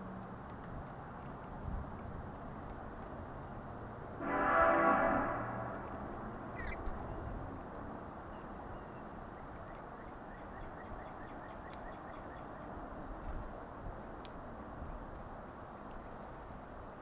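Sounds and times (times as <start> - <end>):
outdoor background rush: 0.0 - 17.0.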